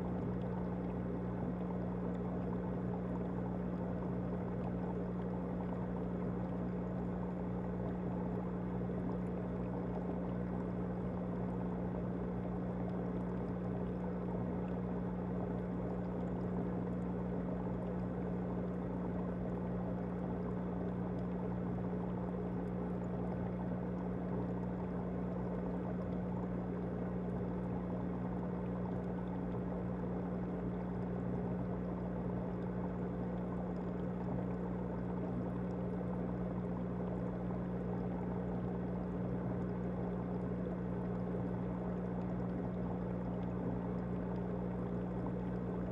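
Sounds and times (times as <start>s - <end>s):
aquarium pump humming: 0.0s - 45.9s.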